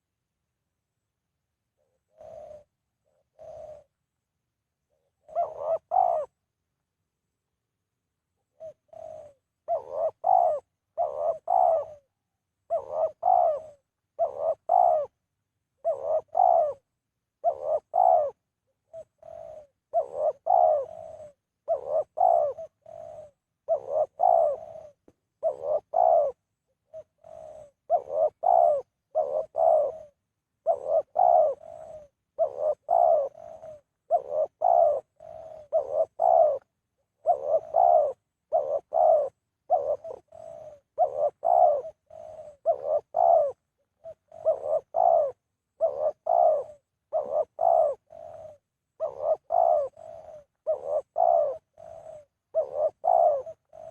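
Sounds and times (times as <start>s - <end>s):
dove cooing: 1.7s - 4.0s, 4.8s - 6.4s, 8.3s - 53.9s.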